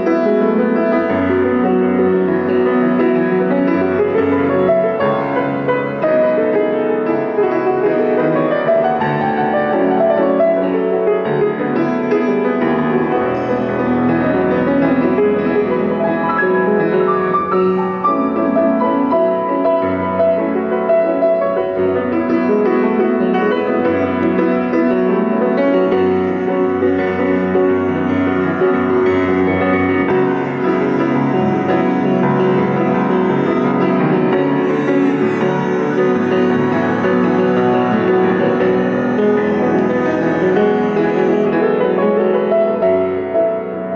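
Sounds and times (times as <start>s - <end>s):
grand piano playing: 0.0s - 43.9s.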